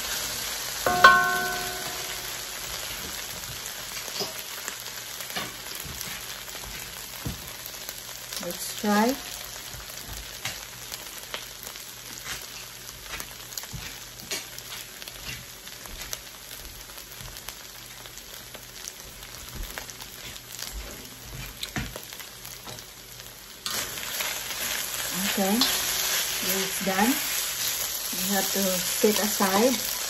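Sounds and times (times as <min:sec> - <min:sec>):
beef sizzling in a wok: 0:00.0 - 0:30.0.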